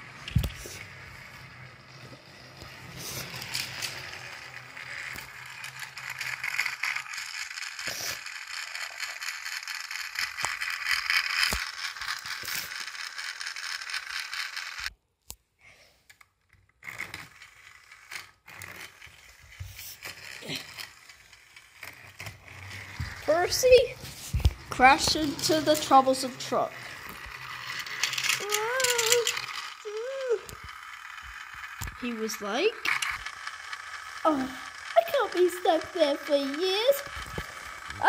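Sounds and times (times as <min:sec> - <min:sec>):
plastic toy trains rattling: 0:00.0 - 0:14.9, 0:16.1 - 0:38.0.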